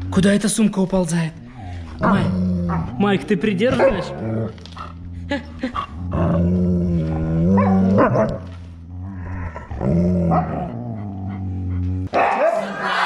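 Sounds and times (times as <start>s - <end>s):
dogs growling and barking: 1.4s - 12.7s.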